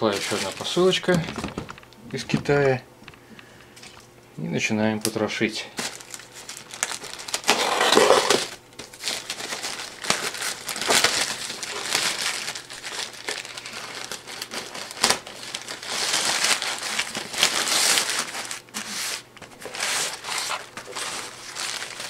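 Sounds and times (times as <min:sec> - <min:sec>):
plastic bag crinkling: 0:00.0 - 0:02.8, 0:05.7 - 0:22.0.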